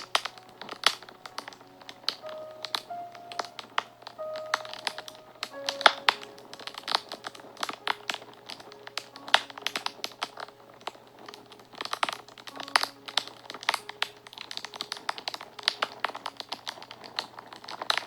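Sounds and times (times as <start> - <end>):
soft background music: 0.0 - 18.0
wood fire crackling and popping: 0.0 - 18.0.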